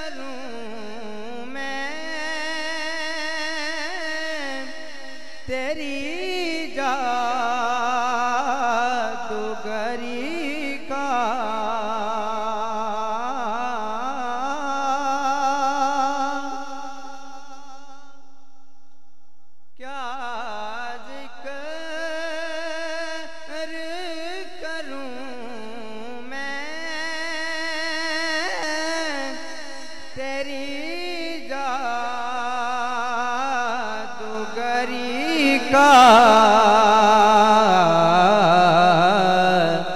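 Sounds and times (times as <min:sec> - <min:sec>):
man singing devotional song: 0:00.0 - 0:18.5, 0:19.8 - 0:39.9.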